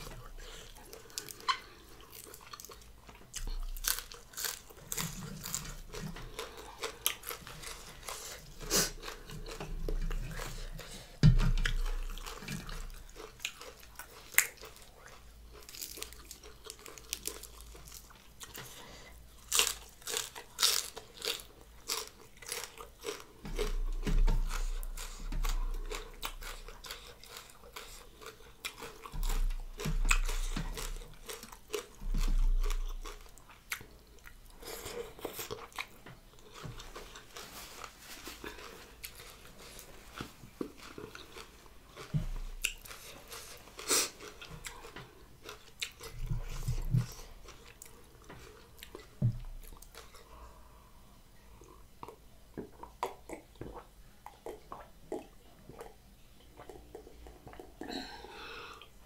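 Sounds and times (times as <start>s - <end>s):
person chewing and biting food: 0.0s - 50.3s.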